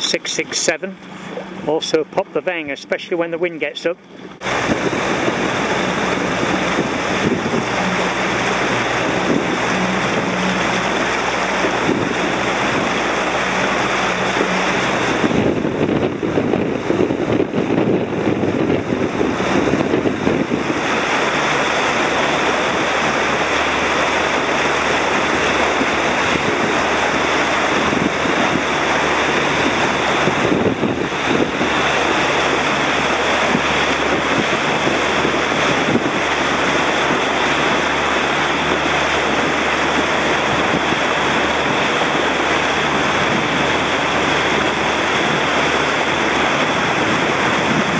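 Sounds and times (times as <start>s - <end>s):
low steady hum: 0.0s - 47.9s
water splashing past boat: 0.0s - 47.9s
wind buffeting microphone: 4.0s - 47.9s.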